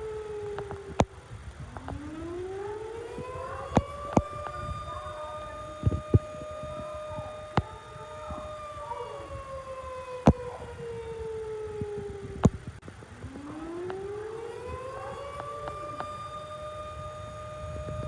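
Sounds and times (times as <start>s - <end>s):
faint gliding siren tones: 0.0s - 18.0s
tornado siren wailing: 0.0s - 18.0s.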